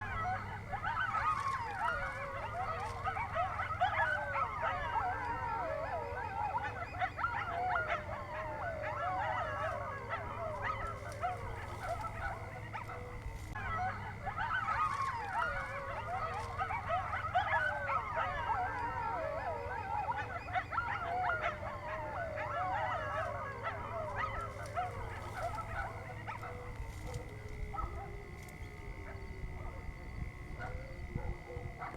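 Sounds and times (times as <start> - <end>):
faint high whine: 0.0 - 31.9
fox and dogs yipping and howling: 0.0 - 31.9.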